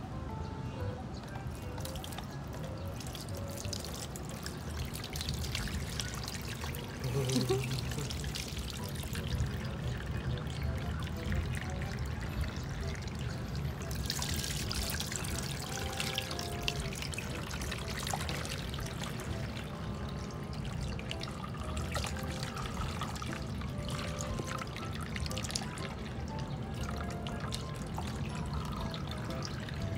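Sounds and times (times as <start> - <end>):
water splashing in a plastic tub: 1.8 - 29.9.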